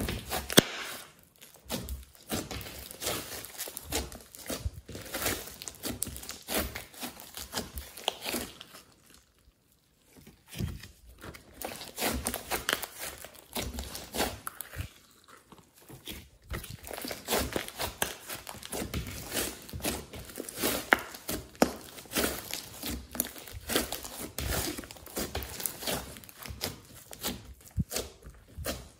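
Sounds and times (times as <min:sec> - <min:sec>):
slime squelching and crackling: 0:00.0 - 0:28.9.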